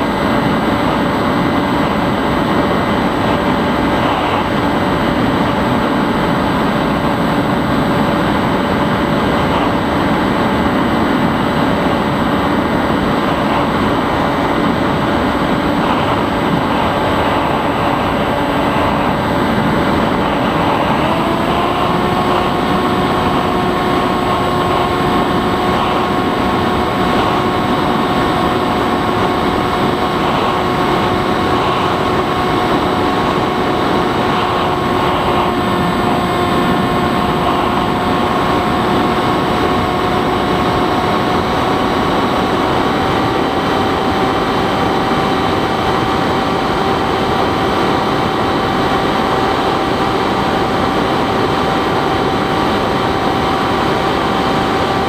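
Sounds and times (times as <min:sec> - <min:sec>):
electric motor and propeller whining: 0:00.0 - 0:55.0.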